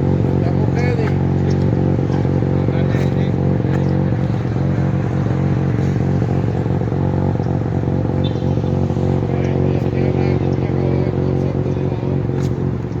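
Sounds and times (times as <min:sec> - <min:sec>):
rotary engine idling: 0:00.0 - 0:13.0.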